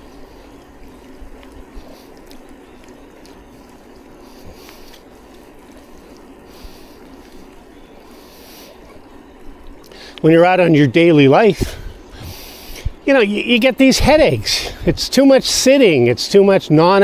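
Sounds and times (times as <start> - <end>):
bicycle tyres hissing on wet road: 0.0 - 16.3.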